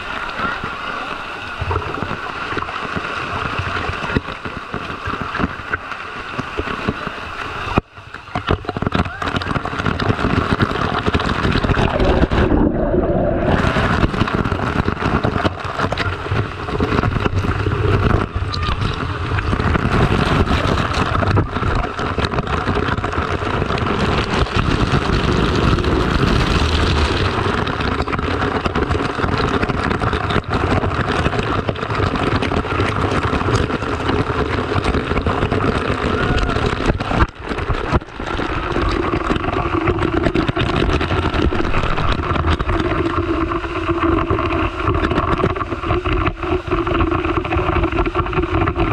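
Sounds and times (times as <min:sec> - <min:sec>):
water splashing and churning: 0:00.0 - 0:48.9.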